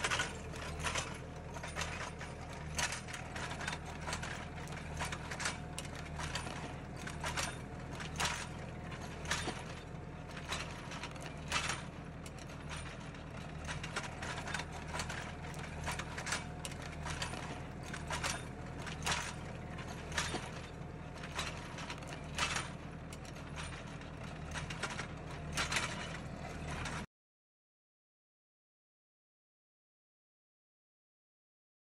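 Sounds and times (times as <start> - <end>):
discs cutting soil: 0.0 - 27.0
sharp mechanical clicks and knocks: 0.0 - 27.1
tractor engine running: 0.0 - 27.1.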